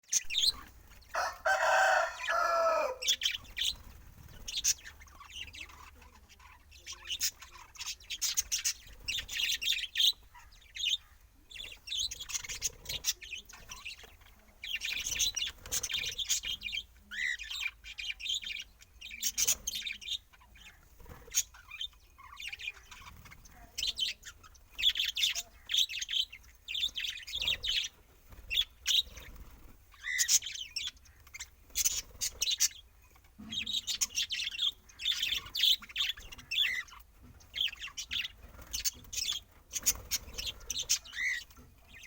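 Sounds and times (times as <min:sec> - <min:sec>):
birds chirping and twittering: 0:00.0 - 0:42.0.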